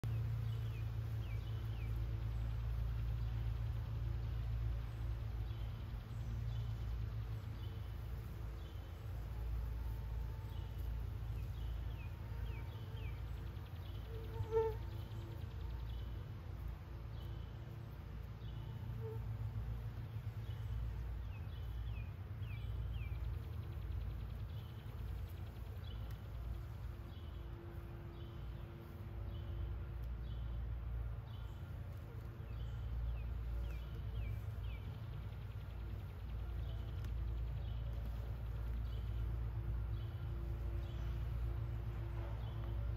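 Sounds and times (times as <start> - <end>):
bird chirping: 0.0 - 42.9
honeybees buzzing: 0.1 - 42.9.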